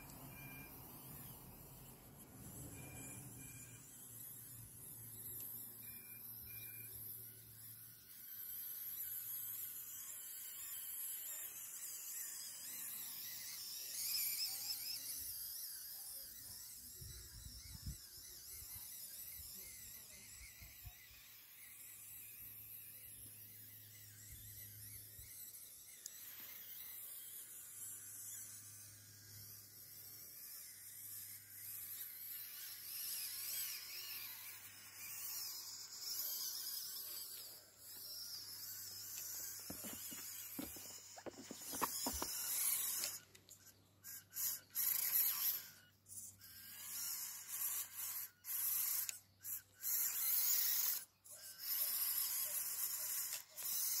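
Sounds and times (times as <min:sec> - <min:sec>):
small electric motor whining: 0:00.0 - 0:54.0.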